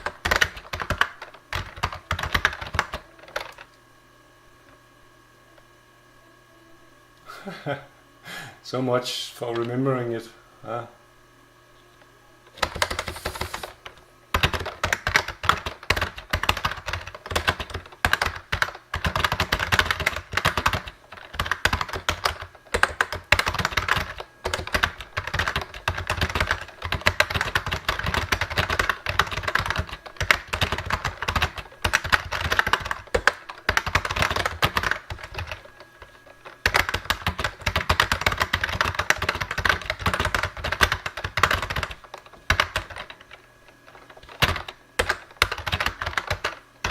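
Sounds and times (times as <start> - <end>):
fast typing on keyboard: 0.0 - 3.7, 12.6 - 46.9.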